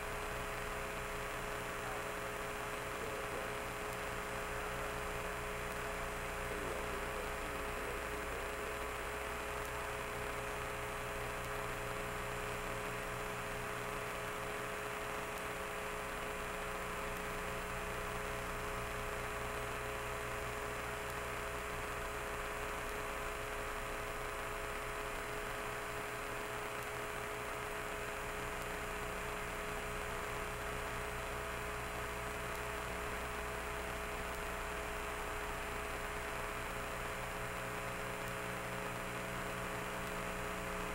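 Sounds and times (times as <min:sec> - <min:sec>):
electrical hum with held tones: 0:00.0 - 0:40.9.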